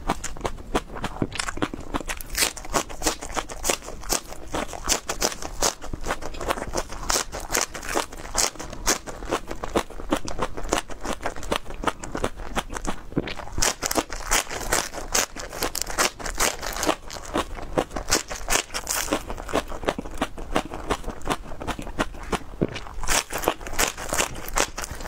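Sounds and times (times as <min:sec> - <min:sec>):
green onion crunching: 0:00.0 - 0:25.0.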